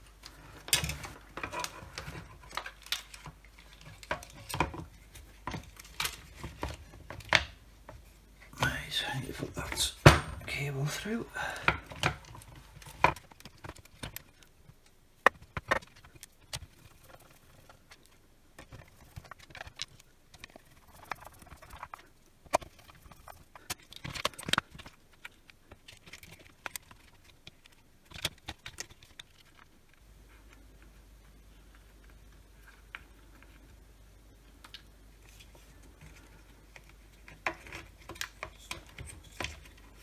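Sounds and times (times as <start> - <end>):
plastic parts clicking and knocking: 0.6 - 8.8, 11.6 - 30.6, 34.5 - 40.0.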